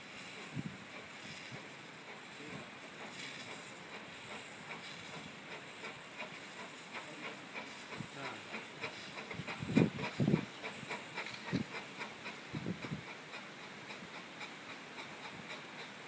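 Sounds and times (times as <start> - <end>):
steam locomotive exhaust chuffs: 0.0 - 16.0
steam locomotive hissing: 0.0 - 16.0.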